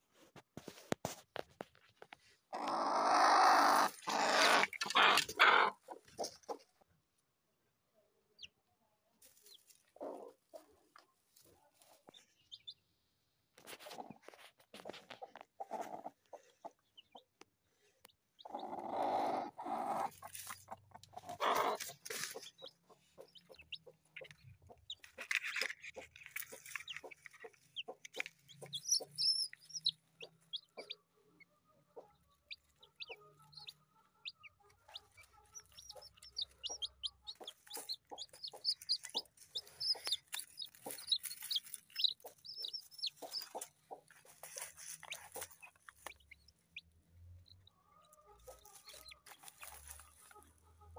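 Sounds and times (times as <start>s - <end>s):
chickens clucking: 2.5s - 6.8s, 9.2s - 12.8s, 13.6s - 50.9s.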